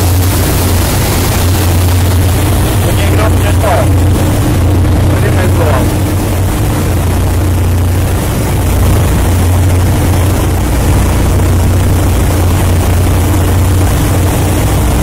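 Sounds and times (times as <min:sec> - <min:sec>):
ship engines droning: 0:00.0 - 0:15.0
wind and water rushing: 0:00.0 - 0:15.0.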